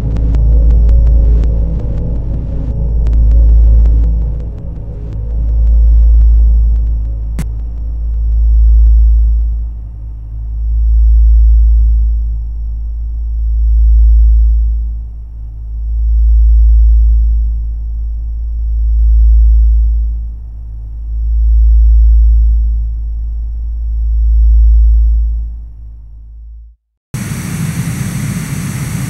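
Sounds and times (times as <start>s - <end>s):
deep low drone: 0.0s - 29.0s
faint high whine: 0.0s - 29.0s.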